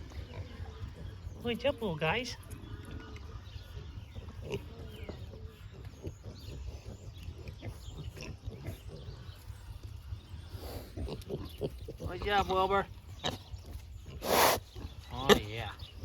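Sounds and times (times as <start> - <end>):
pigs grunting and snuffling: 0.0 - 16.0.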